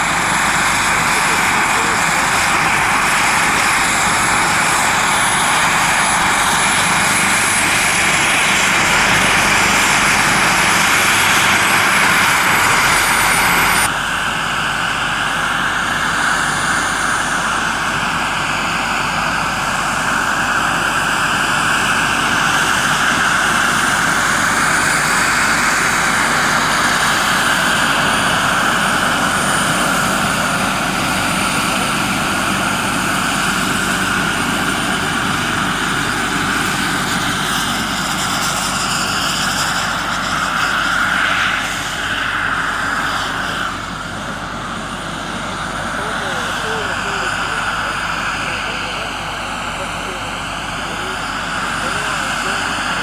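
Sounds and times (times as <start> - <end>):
model helicopter engine and rotor: 0.0 - 53.0.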